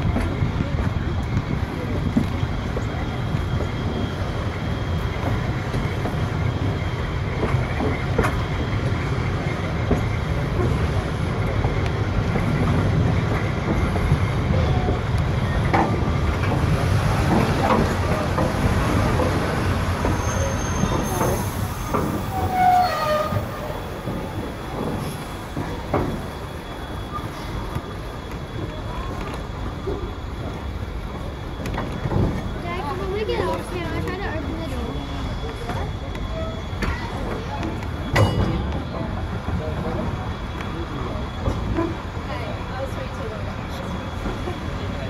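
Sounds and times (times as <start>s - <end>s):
train wheel squeal: 0.0s - 45.0s
train wheels rumbling on rails: 0.0s - 45.0s.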